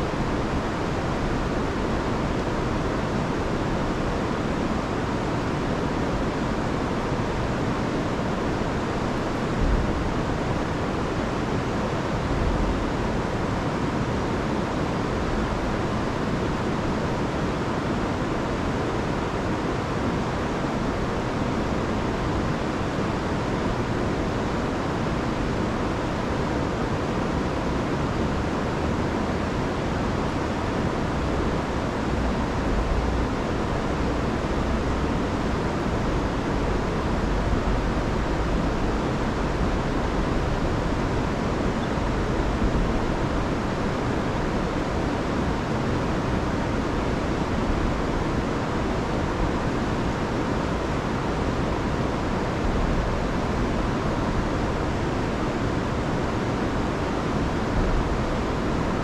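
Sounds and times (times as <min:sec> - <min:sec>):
river rushing over waterfall: 0:00.0 - 0:59.0.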